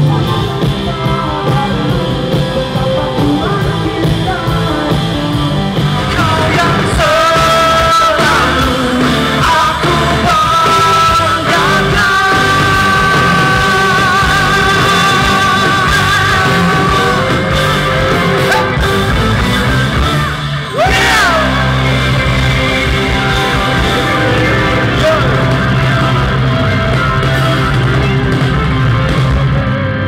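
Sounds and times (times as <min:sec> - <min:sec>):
rock band with singing: 0:00.0 - 0:30.0.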